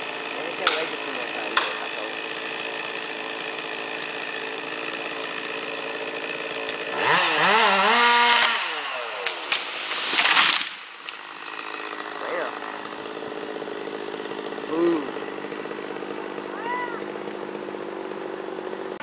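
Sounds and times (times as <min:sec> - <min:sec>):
chainsaw idling and revving: 0:00.0 - 0:19.0.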